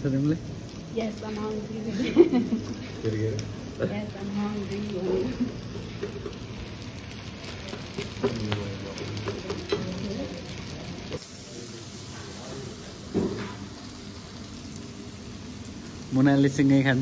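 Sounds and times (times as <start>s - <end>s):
meat sizzling on platter: 0.0s - 17.0s.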